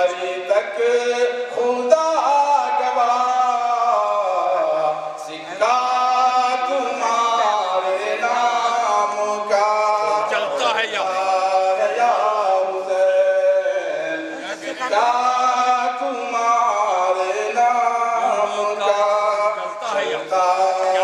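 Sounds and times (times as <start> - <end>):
man singing through a pa: 0.0 - 21.0.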